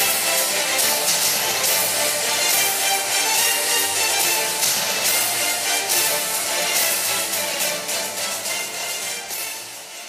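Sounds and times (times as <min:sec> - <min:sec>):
music: 0:00.0 - 0:10.0.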